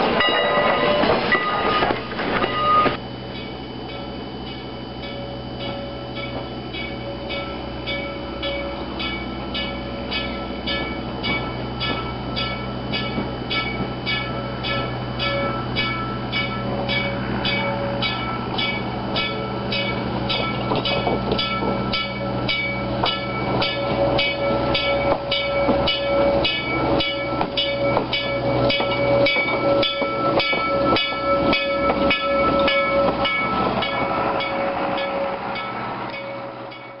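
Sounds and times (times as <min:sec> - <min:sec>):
train wheels clicking over rail joints: 0:00.0 - 0:03.0, 0:04.4 - 0:37.0
train bell ringing: 0:00.0 - 0:37.0.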